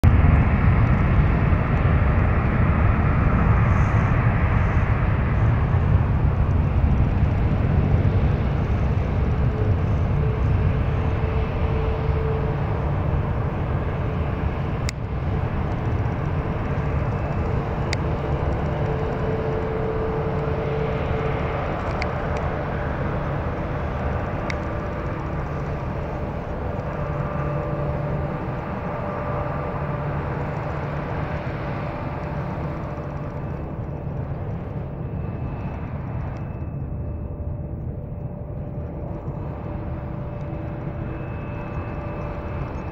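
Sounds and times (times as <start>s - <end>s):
faint steady engine whine: 0.0s - 42.9s
jet engines rumbling at low power: 0.0s - 42.9s.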